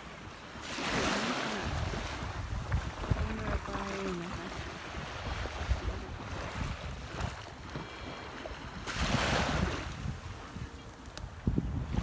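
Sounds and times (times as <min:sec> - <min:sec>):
small sea waves lapping: 0:00.0 - 0:12.0
wind buffeting microphone: 0:00.8 - 0:12.0.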